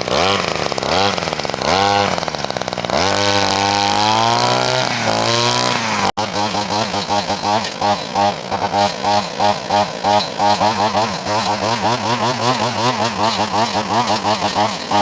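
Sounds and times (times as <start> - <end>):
multitool motor pulsing: 0.0 - 15.0.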